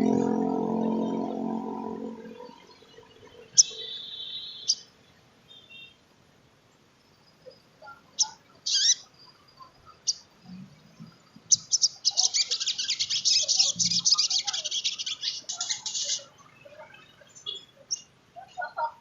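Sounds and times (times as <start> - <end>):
bird twittering song: 0.0 - 5.9, 7.4 - 18.2.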